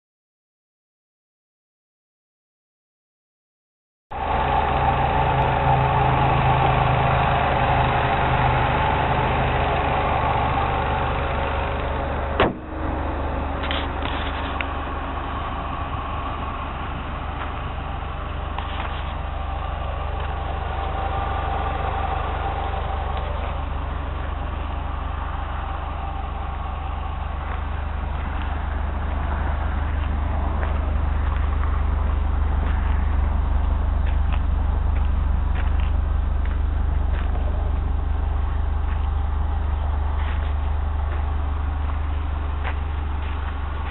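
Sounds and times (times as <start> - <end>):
car engine idling: 4.1 - 43.9.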